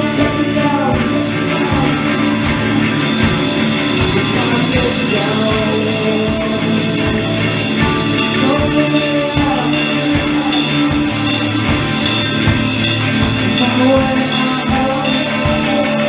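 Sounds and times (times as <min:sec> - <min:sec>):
drum kit: 0:00.0 - 0:16.0
live rock band playing: 0:00.0 - 0:16.0.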